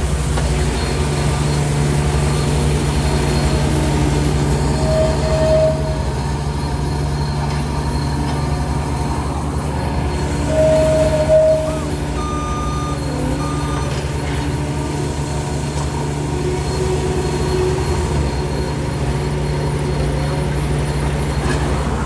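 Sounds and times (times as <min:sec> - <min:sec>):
heavy machinery engine drone: 0:00.0 - 0:22.0
high squeal: 0:00.7 - 0:22.0.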